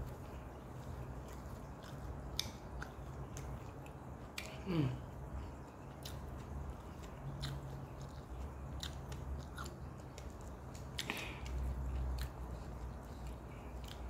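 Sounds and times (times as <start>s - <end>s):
low steady hum: 0.0s - 14.0s
person chewing: 0.0s - 14.0s.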